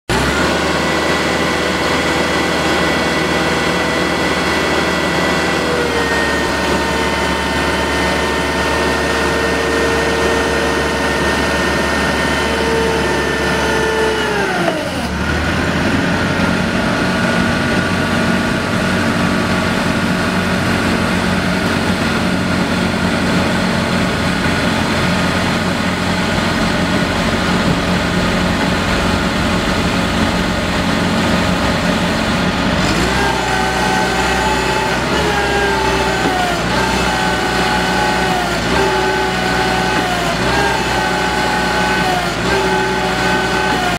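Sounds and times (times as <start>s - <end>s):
forklift engine revving and idling: 0.0s - 43.9s.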